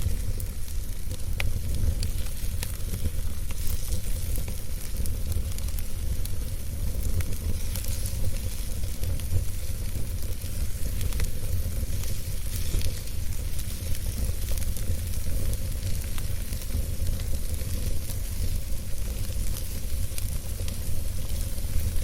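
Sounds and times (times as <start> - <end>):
campfire crackling and popping: 0.0 - 22.0
fire hissing: 0.0 - 22.0
low fire rumble: 0.0 - 22.0.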